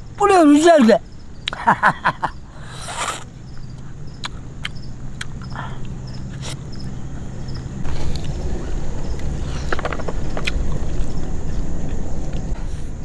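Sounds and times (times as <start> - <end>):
steady low rumble: 1.0 - 13.0.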